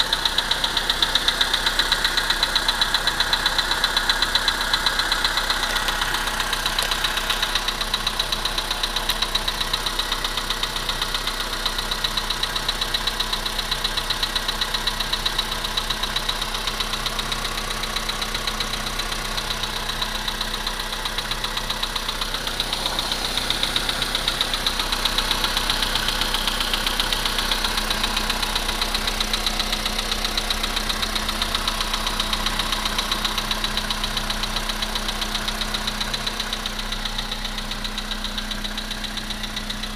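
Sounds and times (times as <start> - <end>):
engine idling with rapid knock: 0.0 - 39.9.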